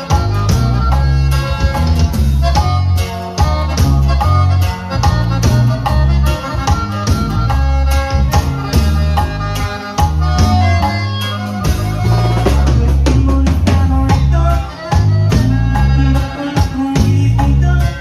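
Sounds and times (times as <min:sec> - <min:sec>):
bass notes: 0:00.0 - 0:18.0
button accordion: 0:00.0 - 0:18.0
drum kit beat: 0:00.0 - 0:18.0.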